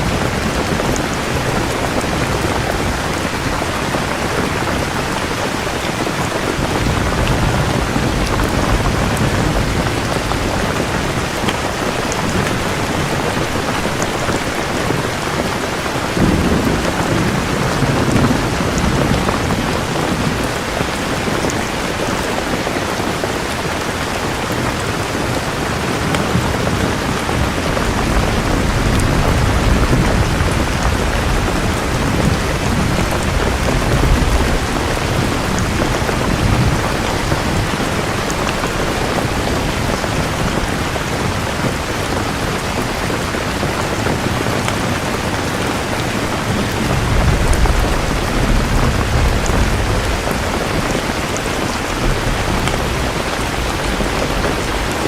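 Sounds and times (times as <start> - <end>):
low thunder rumbling: 0.0 - 22.6, 24.3 - 55.0
steady rain falling: 0.0 - 55.0.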